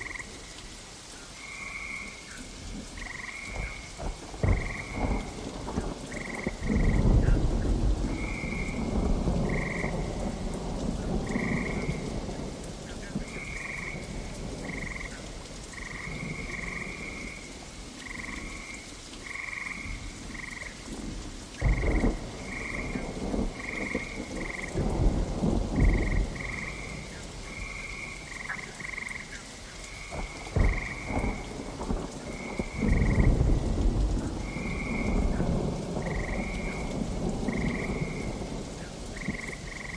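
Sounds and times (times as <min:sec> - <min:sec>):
frogs croaking: 0:00.0 - 0:39.9
rain falling: 0:00.0 - 0:39.9
low rolls of thunder: 0:02.7 - 0:39.9.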